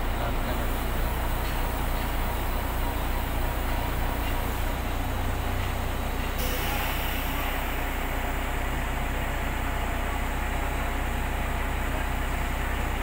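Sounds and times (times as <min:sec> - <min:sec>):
heavy machine engine humming: 0:00.0 - 0:13.0.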